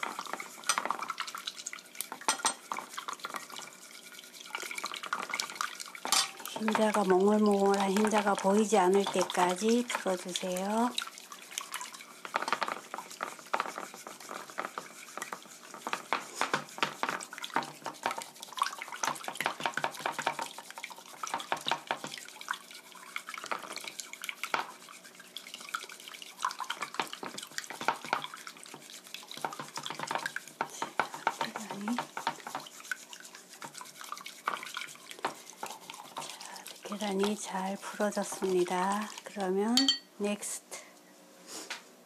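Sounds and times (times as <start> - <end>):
liquid egg sloshing: 0.0 - 40.0.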